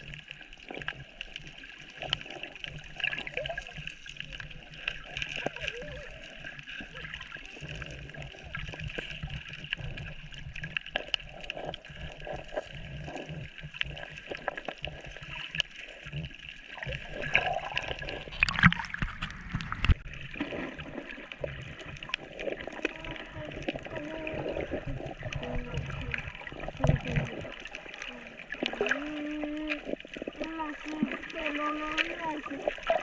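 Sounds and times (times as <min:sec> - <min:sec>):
small clicks underwater: 0:00.0 - 0:33.0
water gurgling and sloshing: 0:00.0 - 0:33.0
water splashing: 0:00.0 - 0:33.0.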